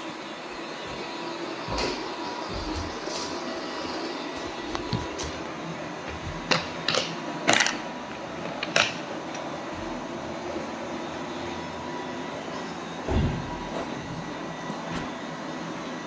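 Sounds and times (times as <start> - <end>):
robot vacuum cleaner running: 0.0 - 16.0.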